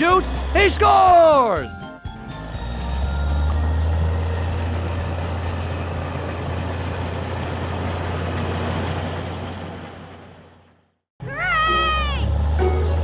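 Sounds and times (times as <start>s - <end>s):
truck engine running: 0.0s - 11.0s, 11.7s - 13.0s.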